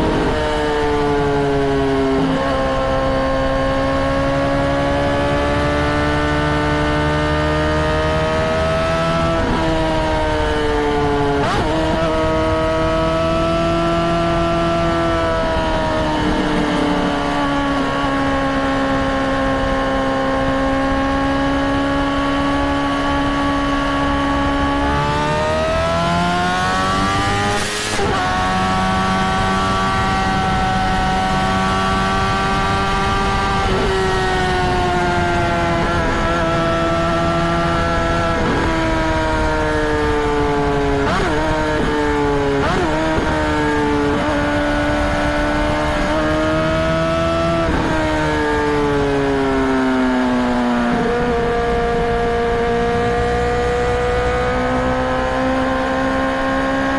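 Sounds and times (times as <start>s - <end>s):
motorcycle engine revving high: 0.0s - 56.9s.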